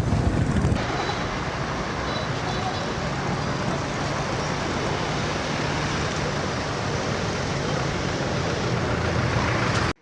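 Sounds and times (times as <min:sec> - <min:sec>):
road traffic rush: 0:00.0 - 0:10.0.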